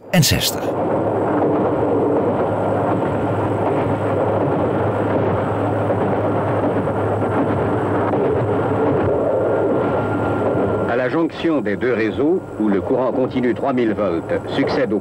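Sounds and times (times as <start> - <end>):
electric locomotive running: 0.8 - 15.0.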